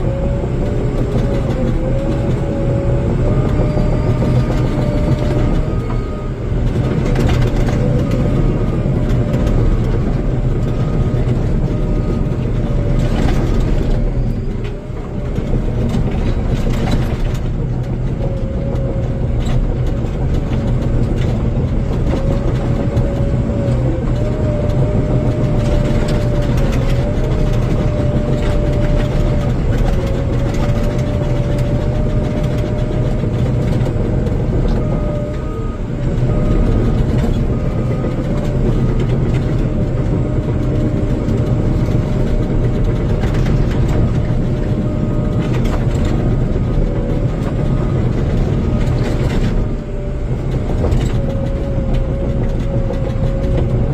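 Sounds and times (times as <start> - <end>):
bulldozer diesel engine running: 0.0 - 53.9.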